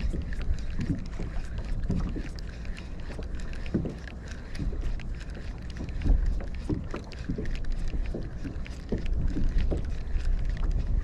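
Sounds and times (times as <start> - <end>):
water slapping against kayak hull: 0.0 - 11.0
wind rumbling on microphone: 0.0 - 11.0.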